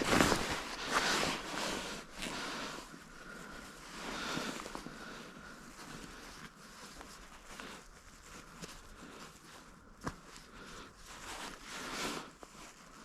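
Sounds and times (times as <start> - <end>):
cord rustling: 0.0 - 13.0.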